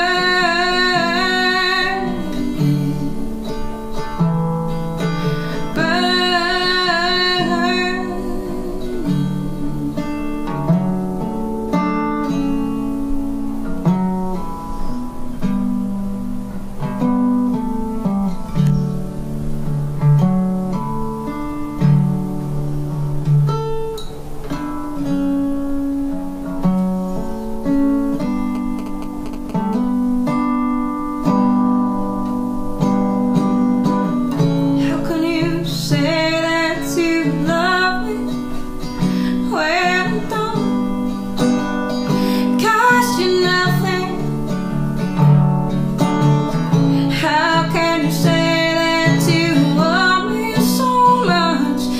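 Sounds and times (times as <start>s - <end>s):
resonator guitar picking: 0.0s - 51.9s.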